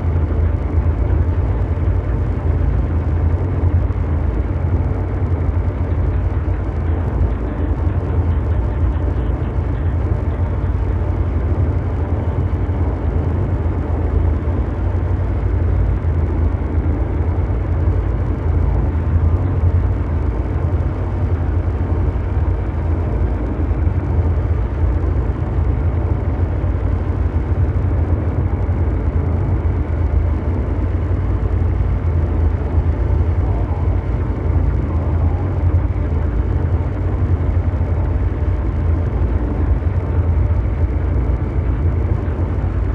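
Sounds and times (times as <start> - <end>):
dense hum of noise: 0.0 - 42.9
low mechanical rumble: 0.0 - 42.9.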